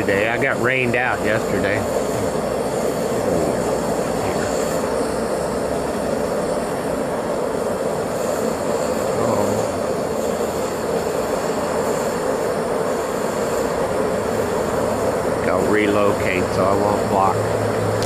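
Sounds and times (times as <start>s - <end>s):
metal-melting furnace rushing: 0.0s - 18.0s.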